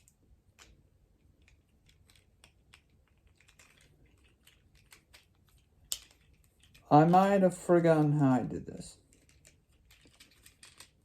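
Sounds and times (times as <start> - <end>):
plastic action figure joints clicking: 0.0 - 7.2, 9.1 - 11.0.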